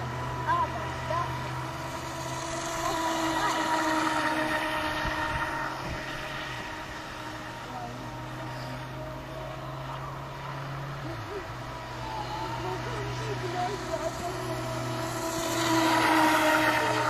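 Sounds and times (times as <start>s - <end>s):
model boat motor buzzing: 0.0s - 17.0s.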